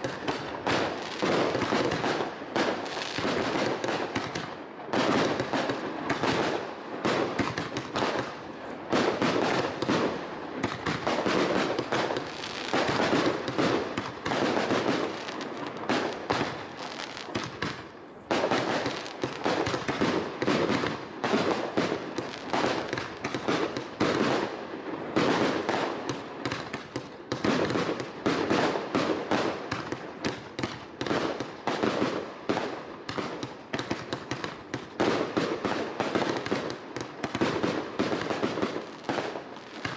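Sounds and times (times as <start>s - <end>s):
fireworks bursts and bangs: 0.0s - 39.9s.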